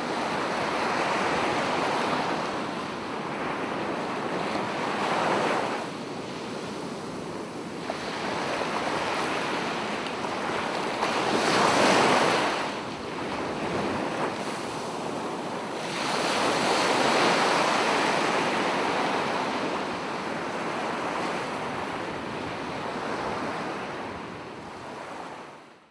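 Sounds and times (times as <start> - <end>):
wind on microphone: 0.0 - 25.4.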